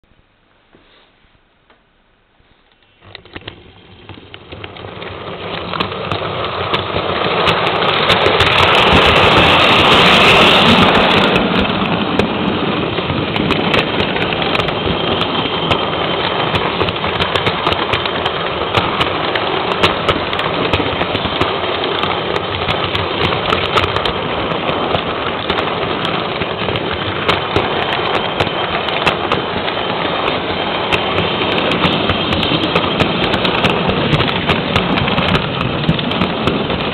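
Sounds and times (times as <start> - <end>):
model train rattling on track: 2.9 - 36.9.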